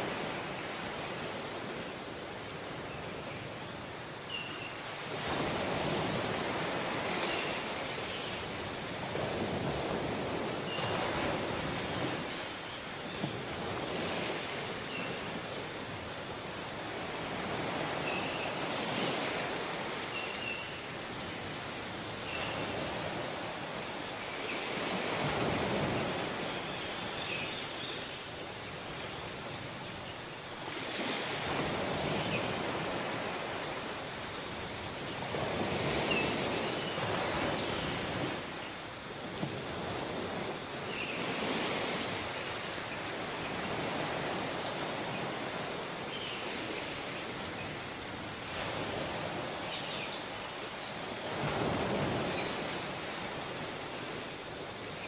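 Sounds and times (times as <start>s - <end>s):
sea waves washing onto beach: 0.0s - 4.1s, 4.8s - 50.3s, 50.9s - 55.0s.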